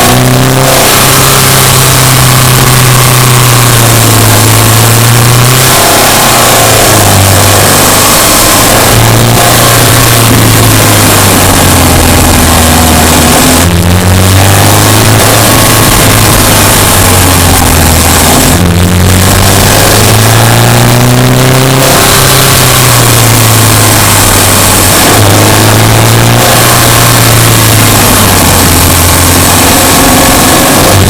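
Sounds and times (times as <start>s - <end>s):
car engine revving while driving: 0.0s - 31.0s.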